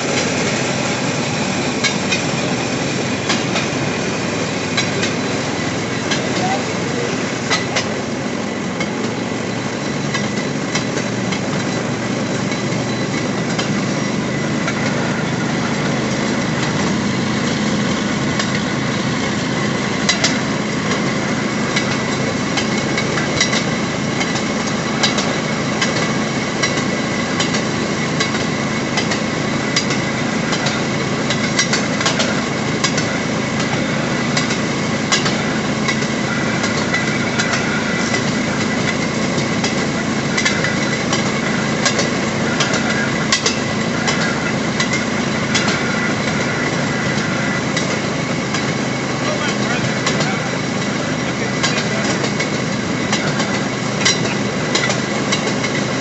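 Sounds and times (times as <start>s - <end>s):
wheels clicking over rail joints: 0.0s - 56.0s.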